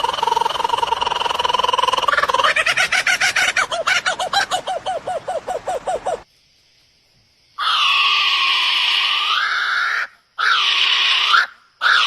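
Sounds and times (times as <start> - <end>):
bird screeching calls: 0.0 - 6.2, 7.6 - 12.0.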